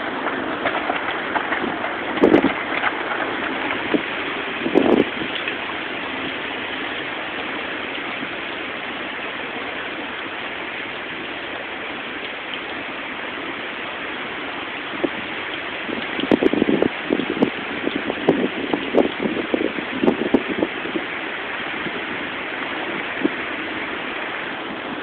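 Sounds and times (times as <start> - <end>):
hurricane wind: 0.0 - 25.0
rain: 0.0 - 25.0.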